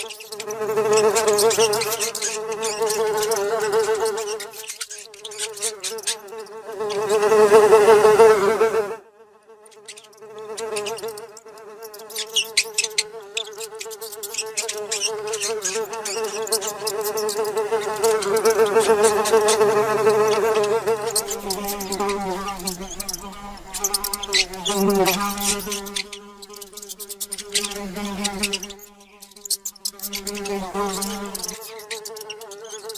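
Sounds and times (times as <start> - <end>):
housefly buzzing: 0.0 - 32.9.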